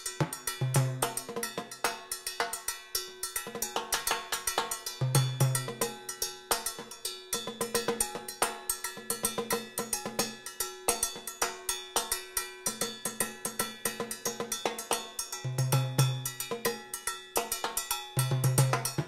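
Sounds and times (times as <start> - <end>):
sticks on cowbell and block: 0.0 - 19.0.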